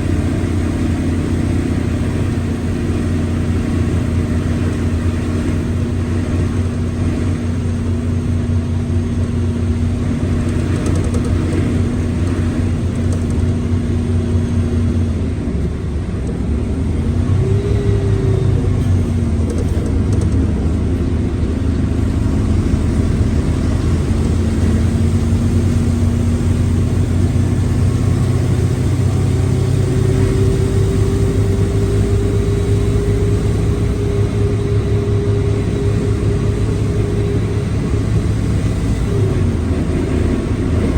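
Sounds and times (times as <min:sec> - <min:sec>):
diesel bus engine running: 0:00.0 - 0:40.9
rising whine: 0:00.0 - 0:40.9.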